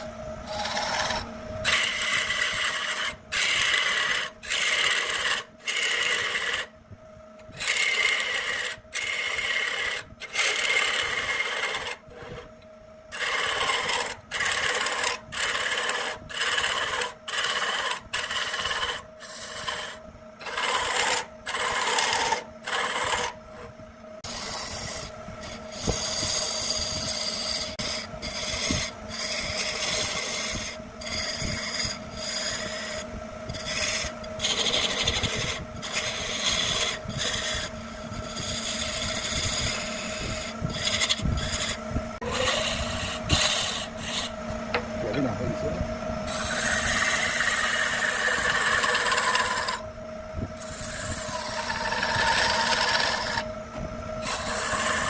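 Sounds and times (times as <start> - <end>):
lathe whine: 0.0 - 55.0
gouge rasping on wood: 0.5 - 6.7, 7.6 - 12.5, 13.1 - 23.7, 25.7 - 39.9, 40.7 - 44.3, 46.3 - 49.8, 50.6 - 53.4, 54.2 - 55.0.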